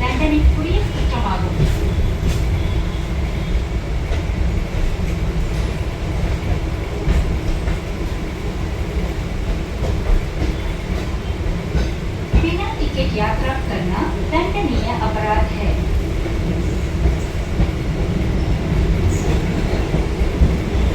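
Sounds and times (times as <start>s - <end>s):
train carriage rumble: 0.0s - 20.9s.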